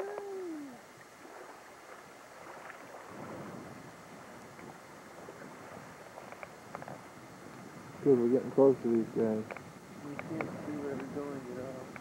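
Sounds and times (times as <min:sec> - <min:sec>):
choppy water along hull: 0:00.0 - 0:12.0
wind hiss on microphone: 0:00.0 - 0:12.0.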